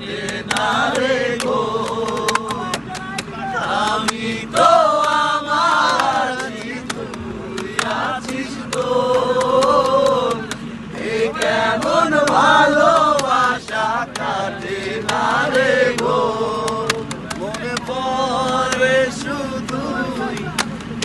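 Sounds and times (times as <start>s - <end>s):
group singing in unison: 0.0s - 2.9s, 3.5s - 20.5s
hand claps: 0.2s - 21.0s.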